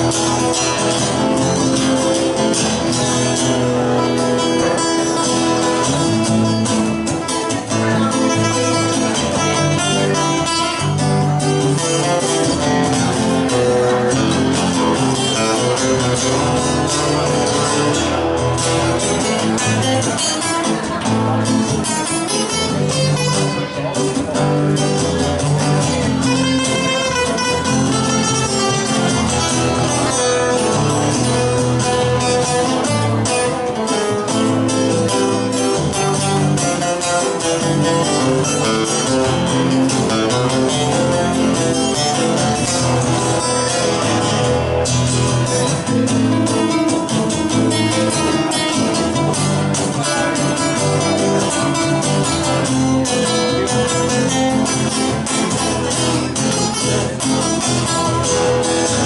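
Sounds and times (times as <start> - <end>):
picked lead guitar melody: 0.0 - 59.0
strummed rhythm guitar: 0.0 - 59.0.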